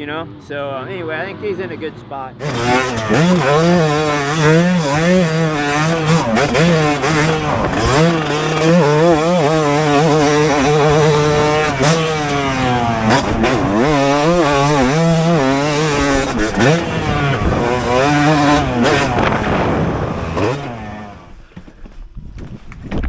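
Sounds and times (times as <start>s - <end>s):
motocross bike engine revving: 1.2s - 21.6s.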